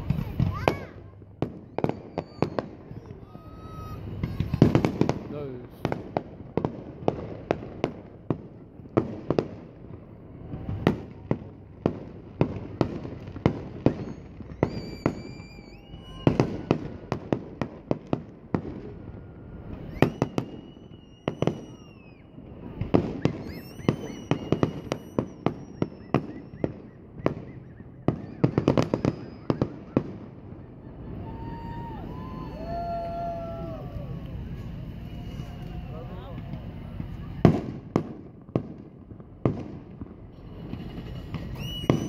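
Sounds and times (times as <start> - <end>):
fireworks bursting with bangs: 0.0 - 42.0
fireworks whistling: 0.0 - 42.0.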